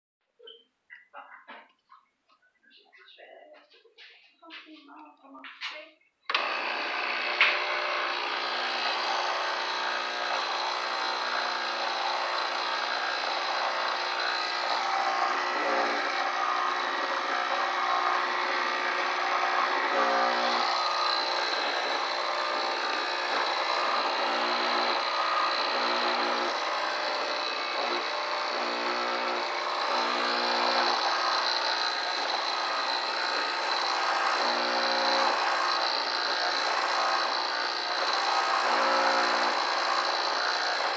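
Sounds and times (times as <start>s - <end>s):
espresso machine pump buzzing: 6.3s - 40.9s.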